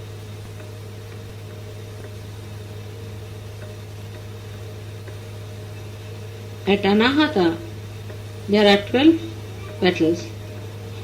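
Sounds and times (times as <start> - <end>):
low electrical hum: 0.0 - 11.0
recording hiss: 0.0 - 11.0.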